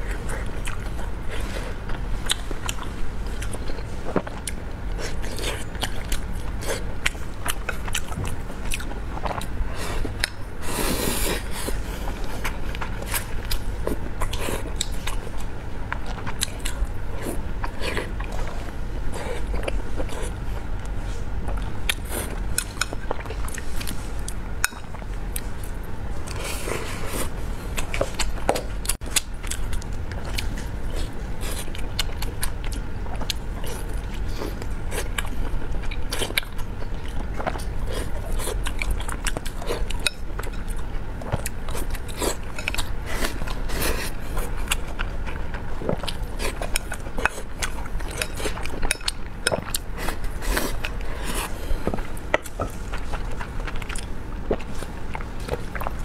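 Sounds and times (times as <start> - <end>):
chewing and wet mouth sounds: 0.0 - 56.0
steady low hum: 0.0 - 56.0.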